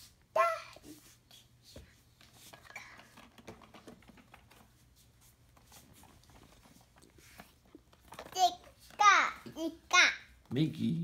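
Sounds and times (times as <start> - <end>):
faint rustling: 0.7 - 10.5.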